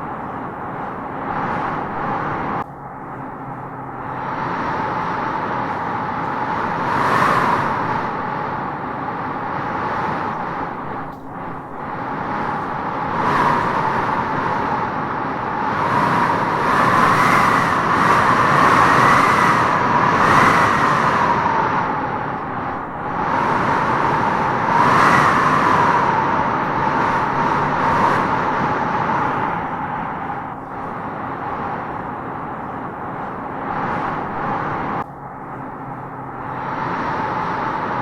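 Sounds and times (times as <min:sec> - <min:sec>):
wind howling through trees: 0:00.0 - 0:38.0.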